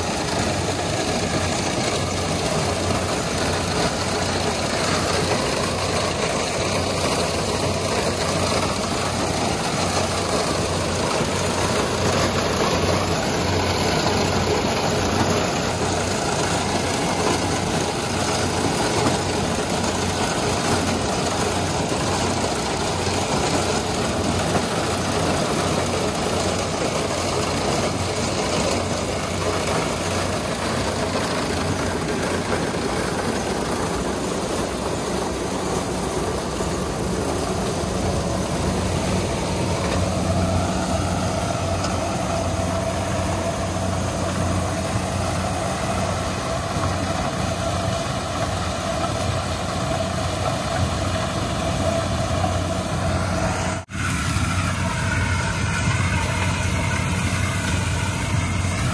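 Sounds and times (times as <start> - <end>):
diesel engine drone: 0.0 - 58.9
header machinery rattling: 0.0 - 58.9.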